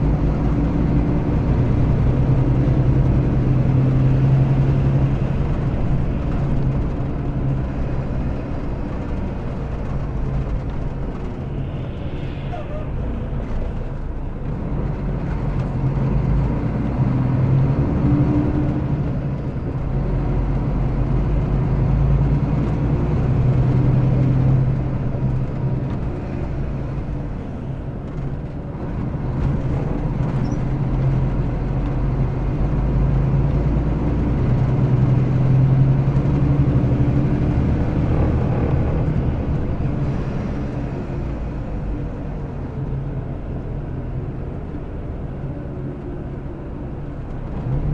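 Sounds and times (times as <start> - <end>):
diesel bus engine under load: 0.0 - 47.9.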